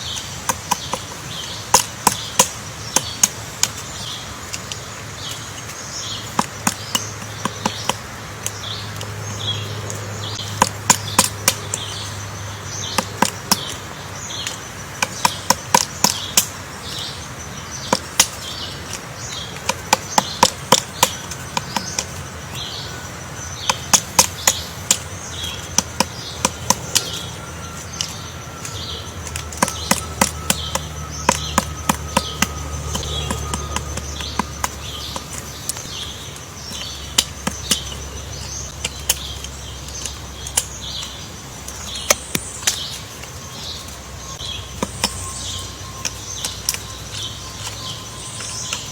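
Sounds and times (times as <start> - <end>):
high chirping: 0.0 - 48.9
woodpecker pecking wood: 0.0 - 48.9.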